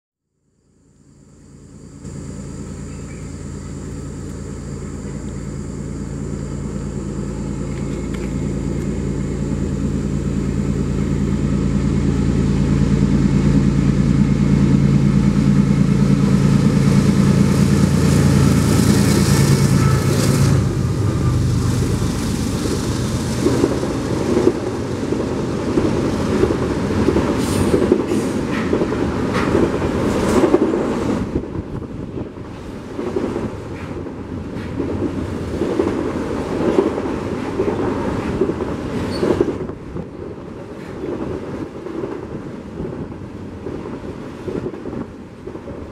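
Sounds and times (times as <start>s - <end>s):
locomotive engine drone: 0.4s - 45.9s
wheels rumbling on rail: 0.7s - 45.9s
clicks of rail cars: 6.4s - 45.9s.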